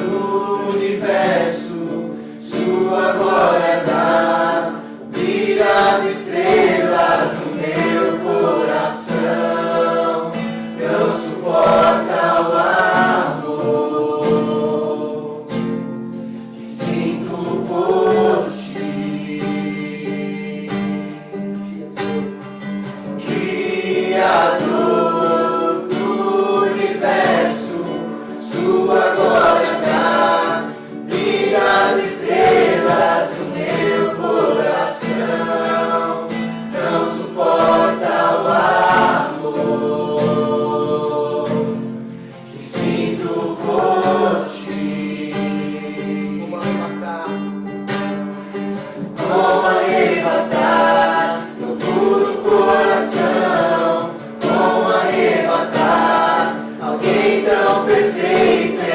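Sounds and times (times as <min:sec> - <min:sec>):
group singing a worship song: 0:00.0 - 0:58.9
strummed acoustic guitar: 0:00.0 - 0:58.9.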